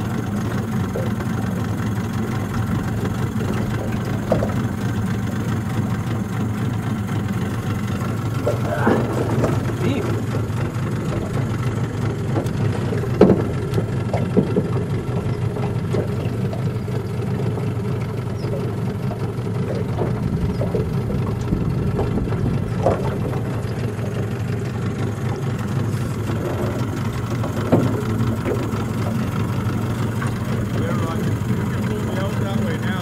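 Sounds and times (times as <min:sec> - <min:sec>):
motorboat engine running: 0:00.0 - 0:33.0.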